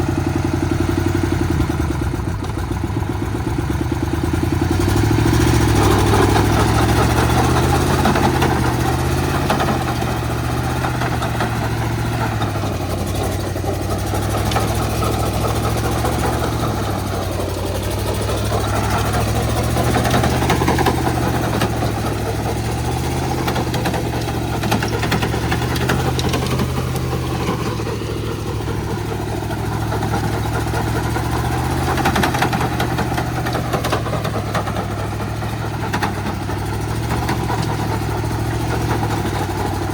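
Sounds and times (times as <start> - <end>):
diesel cultivator engine running: 0.0 - 39.9.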